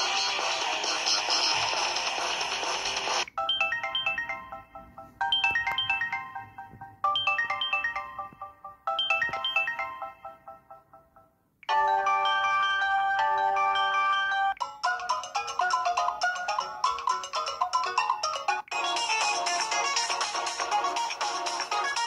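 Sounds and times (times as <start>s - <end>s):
noisy ringtone: 0.0s - 22.0s
ringtone with held notes: 0.0s - 22.0s
chiming ringtone melody: 2.6s - 22.0s.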